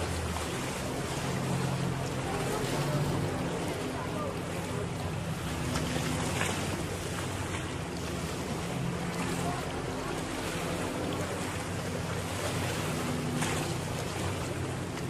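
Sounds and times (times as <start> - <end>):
boat engine running: 0.0 - 15.0
water washing around hull: 0.0 - 15.0.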